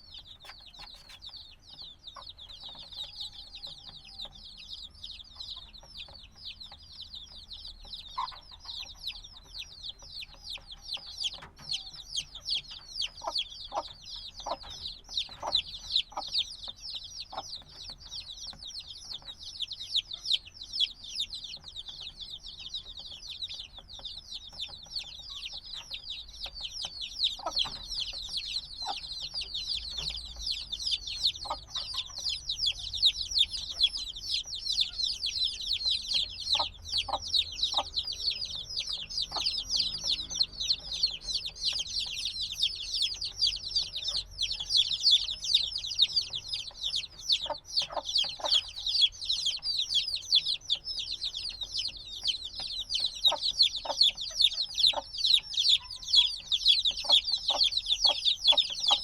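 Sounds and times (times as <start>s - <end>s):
baby chicks chirping: 0.0s - 59.0s.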